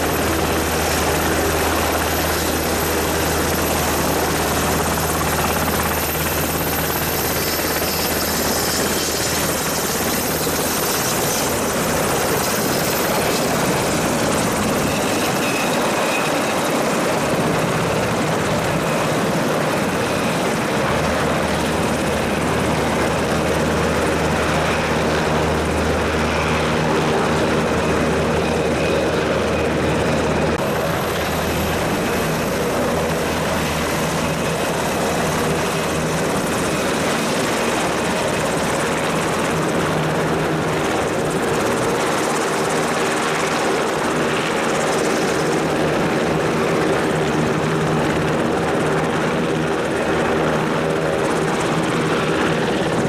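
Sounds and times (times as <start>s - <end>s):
helicopter turbine whine and rotors: 0.0s - 53.0s.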